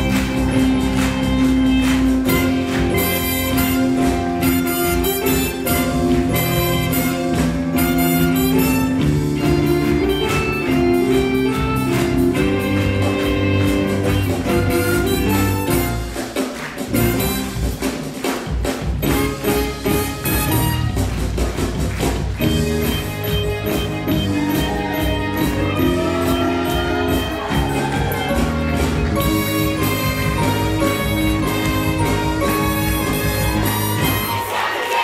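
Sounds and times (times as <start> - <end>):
upbeat instrumental show music: 0.0 - 35.0.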